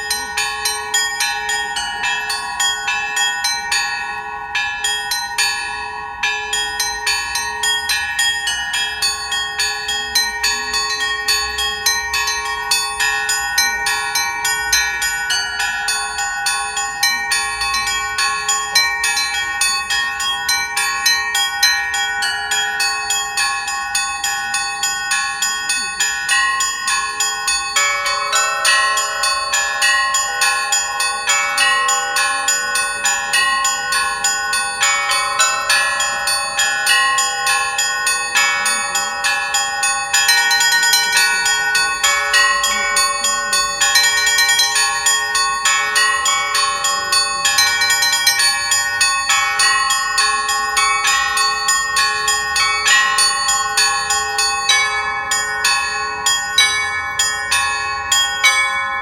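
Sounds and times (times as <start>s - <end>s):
church bells ringing a peal: 0.0s - 59.0s
small high bells ringing: 0.0s - 59.0s.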